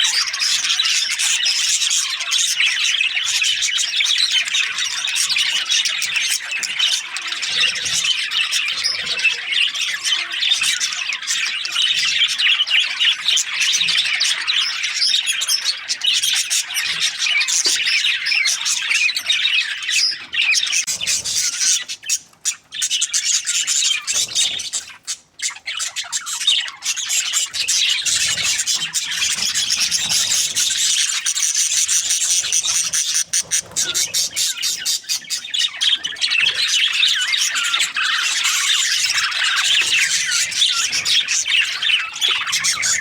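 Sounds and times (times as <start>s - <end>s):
budgerigars chattering and squawking: 0.0s - 43.0s.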